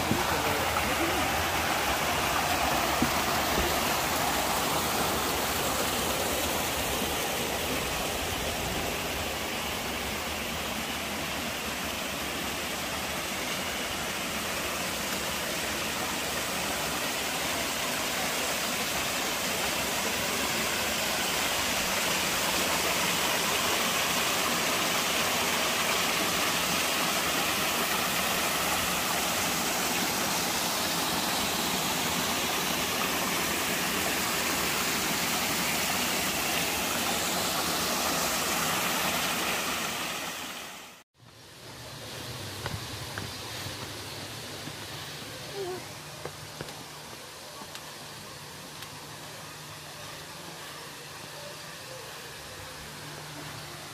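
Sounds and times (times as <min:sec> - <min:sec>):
waterfall pouring over rocks: 0:00.0 - 0:53.9.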